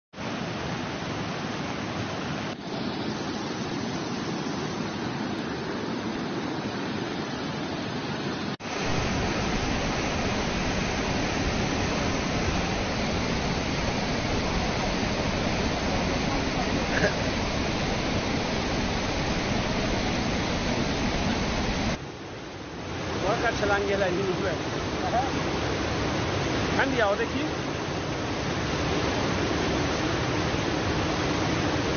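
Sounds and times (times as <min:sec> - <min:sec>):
floodwater rushing roar: 0:00.2 - 0:31.9.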